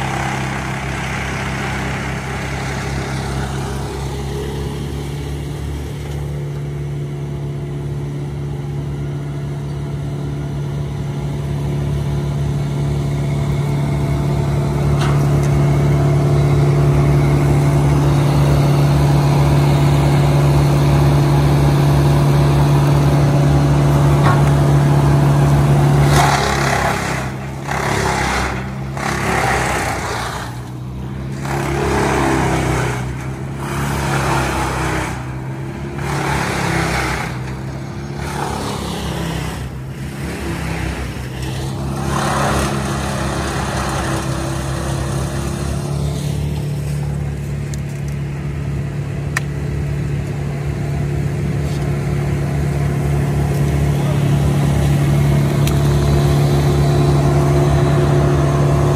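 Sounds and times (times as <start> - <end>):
wood chipper engine running: 0.0 - 58.9.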